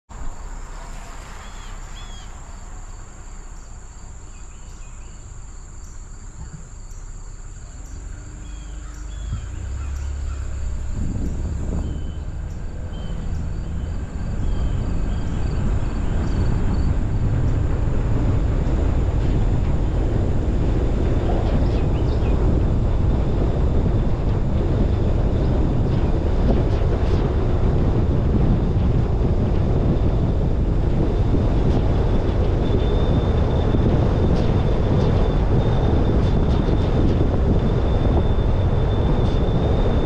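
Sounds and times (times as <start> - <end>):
road rumble: 0.0 - 40.0
wind noise: 0.1 - 40.0.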